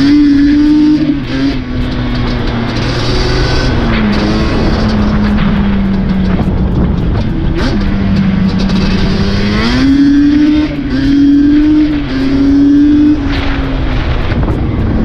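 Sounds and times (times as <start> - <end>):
road rumble: 0.0 - 15.0
vehicle engine running: 0.0 - 15.0
wind noise: 0.0 - 15.0.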